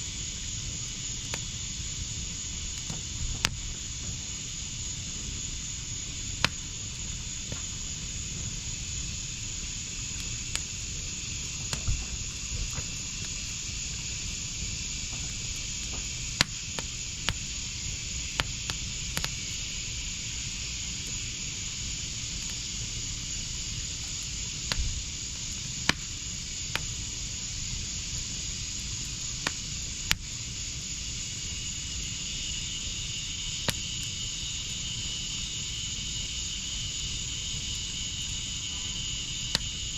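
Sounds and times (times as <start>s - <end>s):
fire hissing: 0.0s - 39.9s
insects trilling: 0.0s - 39.9s
wood fire crackling and popping: 0.0s - 39.9s.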